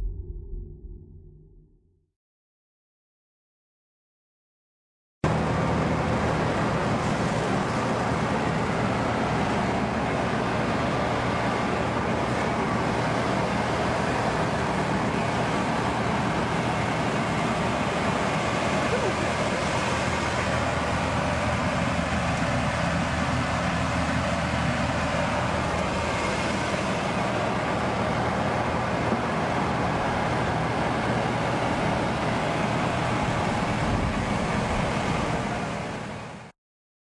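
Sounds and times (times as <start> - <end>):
grain machine humming: 5.3 - 36.3.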